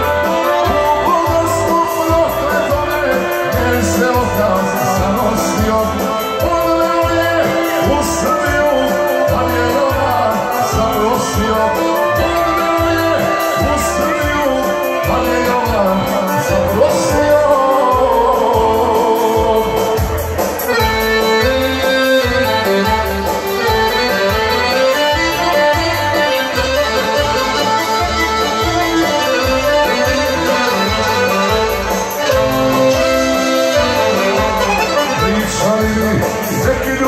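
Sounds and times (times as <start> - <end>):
accordion folk dance music: 0.0 - 37.0.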